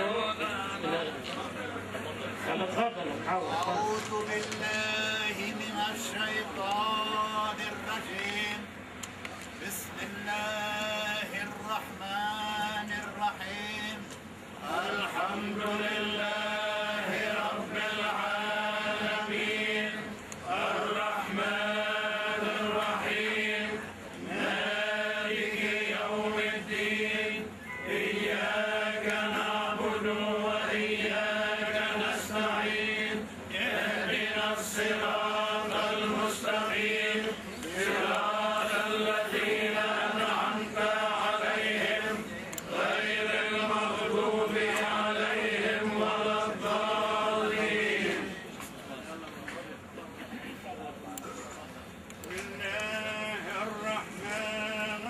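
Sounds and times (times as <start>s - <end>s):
men chanting: 3.3s - 8.7s, 9.6s - 14.0s, 14.6s - 48.4s, 52.4s - 55.0s.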